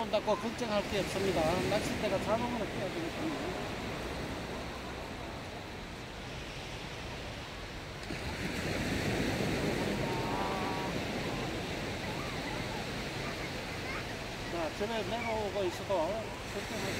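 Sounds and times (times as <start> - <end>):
waves breaking on sandy beach: 0.0 - 16.9
wind on microphone: 0.9 - 14.6.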